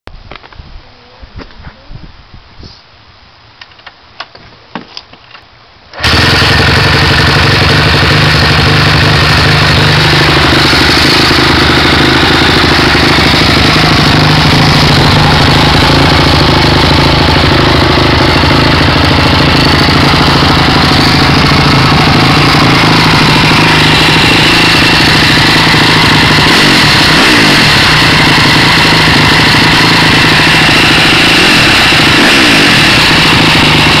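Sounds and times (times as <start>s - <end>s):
dirt bike engine revving: 6.0s - 34.0s.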